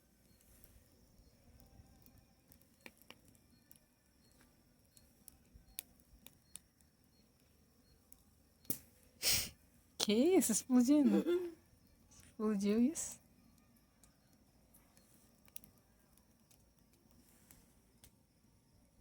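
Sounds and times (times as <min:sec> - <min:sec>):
bonfire pops and crackles: 0:00.2 - 0:09.2, 0:12.0 - 0:18.3.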